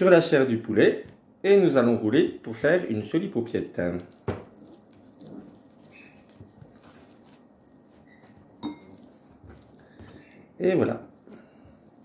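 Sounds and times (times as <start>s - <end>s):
wet squishing of raw meat: 1.1s - 12.0s.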